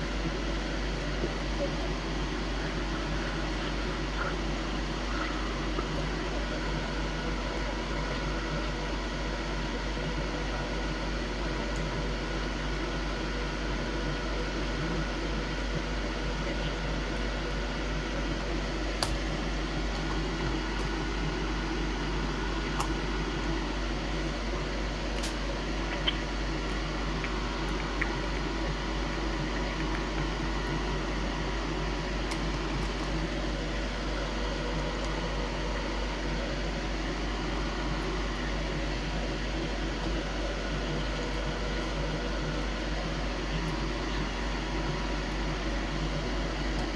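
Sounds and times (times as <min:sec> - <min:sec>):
fan-like whir: 0:00.0 - 0:46.9.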